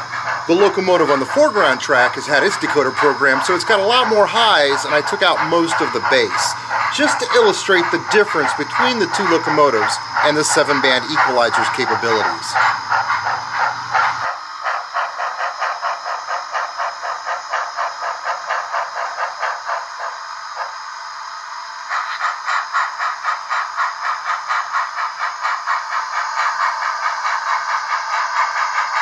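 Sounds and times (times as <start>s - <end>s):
thin hissy steam chuff: 0.0s - 29.0s.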